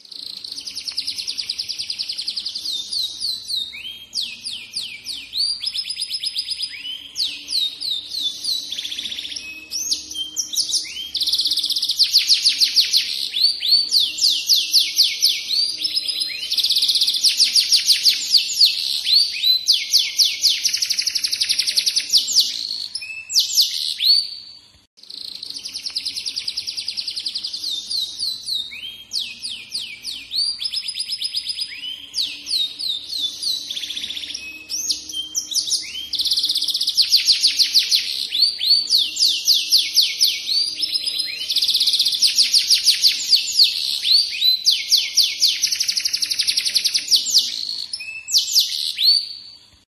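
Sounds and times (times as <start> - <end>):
canary singing trills: 0.0 - 49.6.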